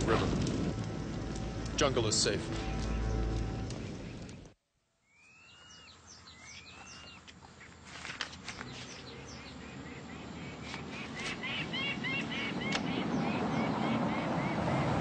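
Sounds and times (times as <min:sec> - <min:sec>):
bird chirps: 0:02.5 - 0:14.9.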